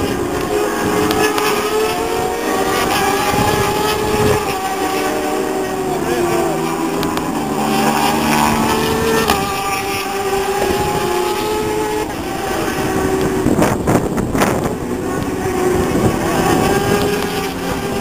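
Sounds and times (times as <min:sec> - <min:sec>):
motorcycle engines at high revs: 0:00.0 - 0:18.0.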